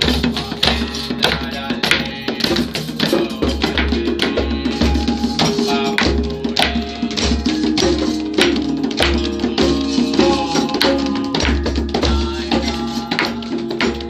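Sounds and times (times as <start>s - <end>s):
hand drums thumping and slapping: 0.0s - 14.0s
metal drum struck with mallet: 0.0s - 14.0s.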